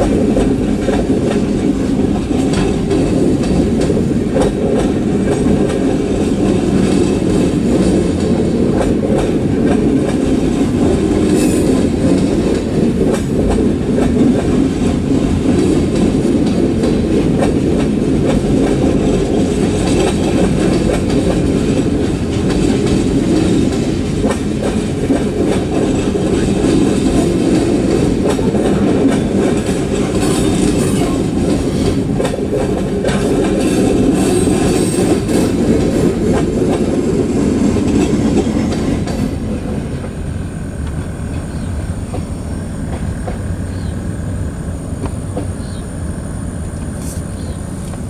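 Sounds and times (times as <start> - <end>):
freight train wheels rumbling: 0.0 - 48.0
wheels clacking on rails: 0.0 - 48.0.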